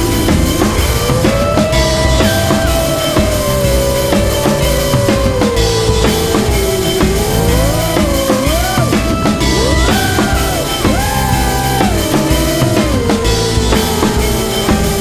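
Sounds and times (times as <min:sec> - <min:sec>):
drum kit beat: 0:00.0 - 0:15.0
sliding lead melody: 0:00.0 - 0:15.0.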